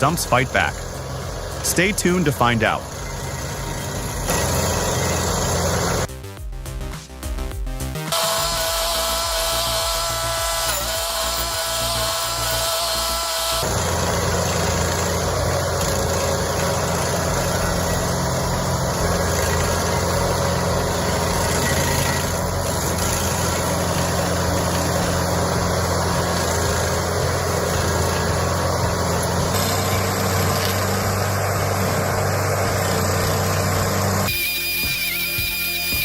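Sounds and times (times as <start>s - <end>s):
stump grinder engine running: 0.0s - 6.1s, 8.1s - 36.0s.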